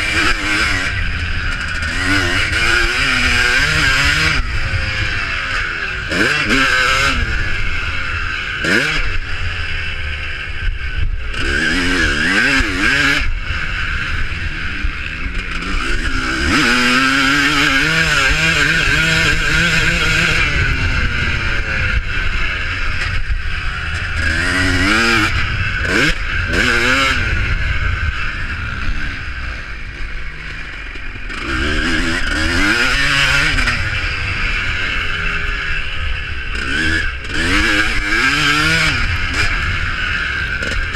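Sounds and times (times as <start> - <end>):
motocross motorcycles revving: 0.0 - 40.9.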